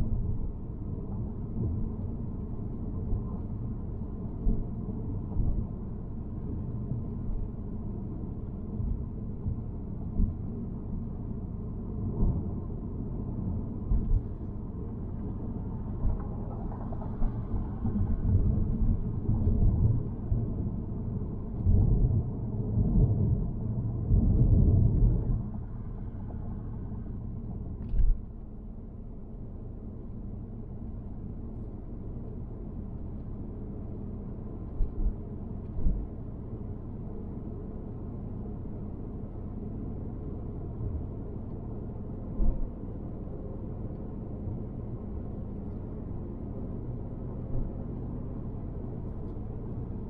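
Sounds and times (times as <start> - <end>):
car interior road rumble: 0.0 - 50.0.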